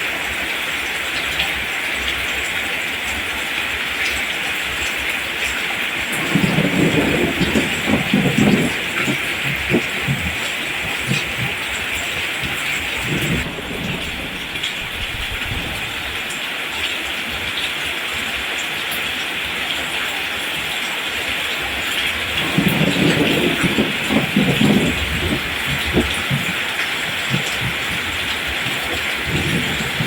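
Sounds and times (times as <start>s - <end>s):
rain falling on plants: 0.0s - 30.0s.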